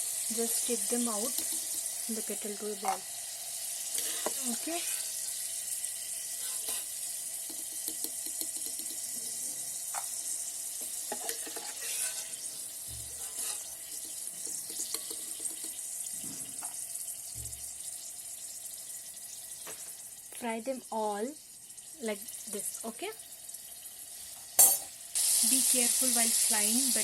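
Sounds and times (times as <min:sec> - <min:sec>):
corn sizzling in hot oil: 0:00.0 - 0:27.0.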